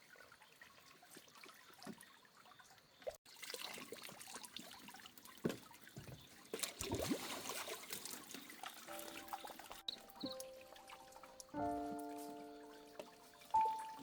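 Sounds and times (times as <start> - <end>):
water pouring and trickling: 0.0 - 14.0.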